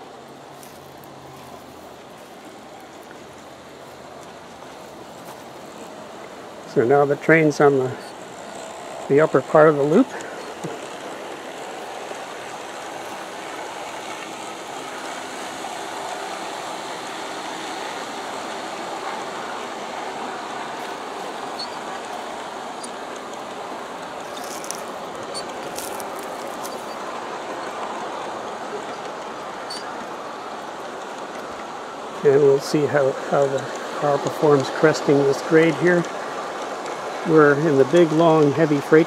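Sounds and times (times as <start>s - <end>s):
model train wheels rumbling: 0.0s - 39.0s.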